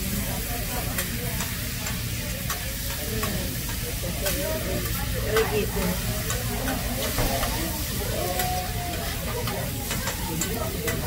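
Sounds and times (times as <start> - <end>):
food sizzling on a griddle: 0.0 - 11.0
murmur of voices: 0.0 - 11.0.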